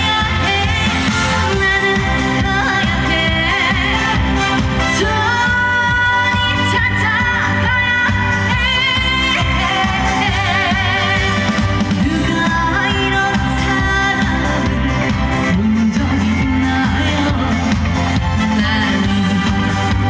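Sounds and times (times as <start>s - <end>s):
instrumental backing with bass beat: 0.0s - 20.0s
woman singing with vibrato: 0.0s - 20.0s.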